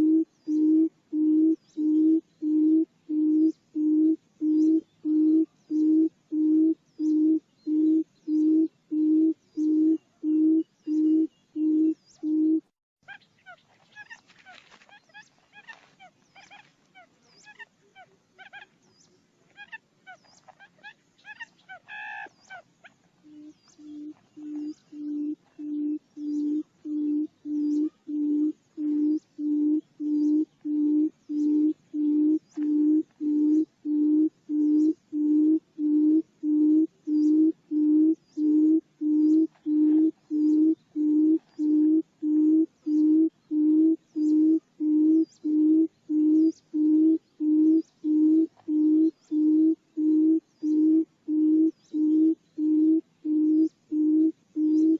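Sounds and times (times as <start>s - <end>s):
low evenly spaced bird hoots: 0.0s - 14.2s, 19.6s - 54.9s
birds chirping faintly: 0.0s - 54.9s.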